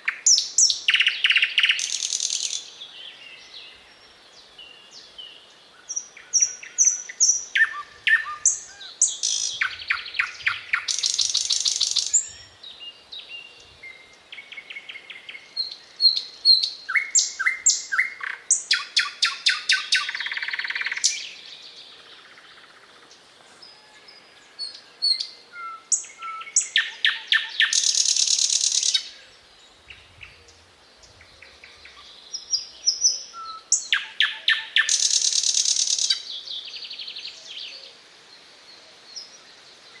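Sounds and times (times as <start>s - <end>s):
nightingale singing: 0.0s - 38.0s.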